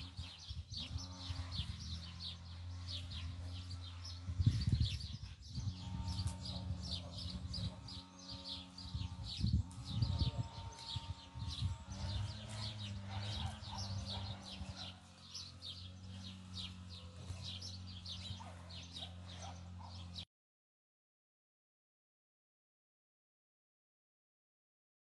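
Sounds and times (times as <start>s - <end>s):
steady low hum: 0.0s - 20.2s
birds chirping: 0.0s - 20.3s.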